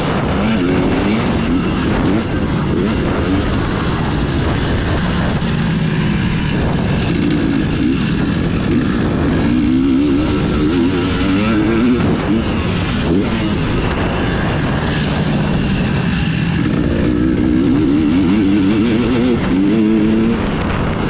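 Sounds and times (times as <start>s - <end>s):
dense rushing noise: 0.0s - 21.0s
motorcycle engine revving: 0.0s - 21.0s.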